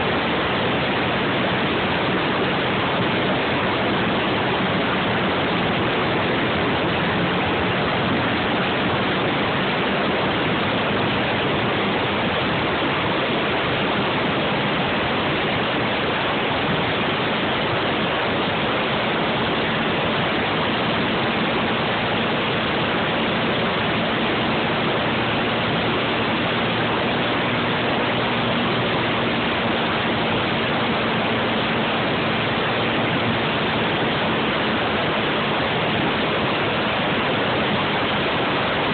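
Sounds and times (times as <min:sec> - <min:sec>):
quad engine hum: 0:00.0 - 0:38.9
road noise: 0:00.0 - 0:38.9
rushing wind: 0:00.0 - 0:38.9.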